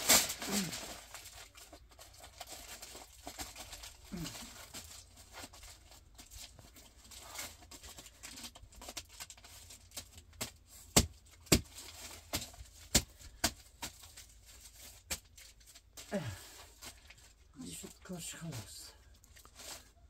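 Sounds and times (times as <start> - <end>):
aluminium foil crinkling: 0.0 - 20.0.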